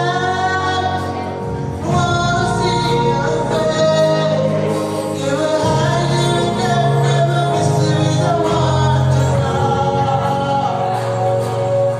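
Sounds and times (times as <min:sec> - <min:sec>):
lead singer and choir singing: 0:00.0 - 0:11.9.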